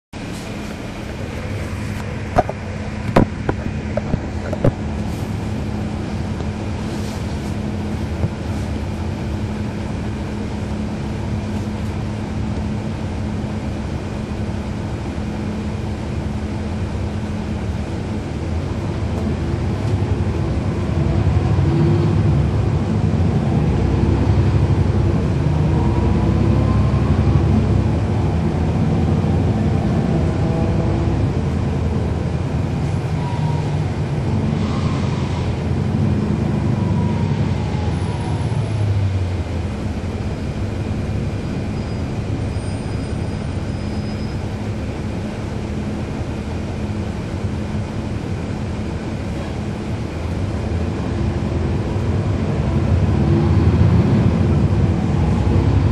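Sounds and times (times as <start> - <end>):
bus diesel engine running: 0.1 - 55.9.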